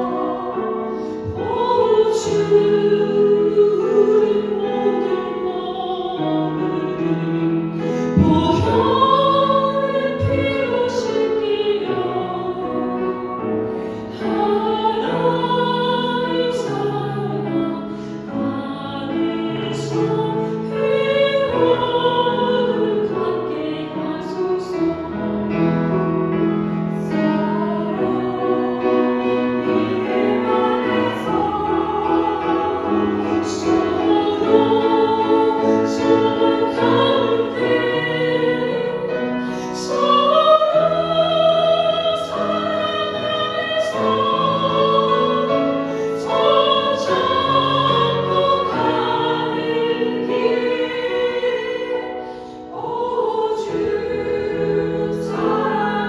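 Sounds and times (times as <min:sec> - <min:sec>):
choir singing a slow hymn: 0:00.0 - 0:56.0.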